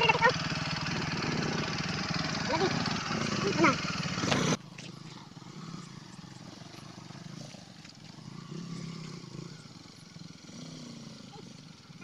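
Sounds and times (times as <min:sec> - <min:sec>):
distant motorcycle engine revving: 0:00.0 - 0:12.0.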